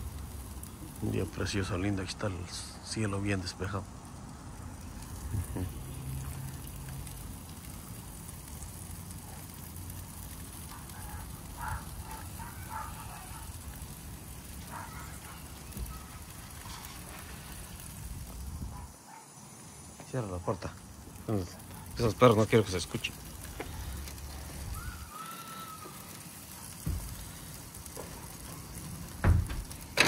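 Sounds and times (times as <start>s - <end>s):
steak sizzling over fire: 0.0s - 30.0s.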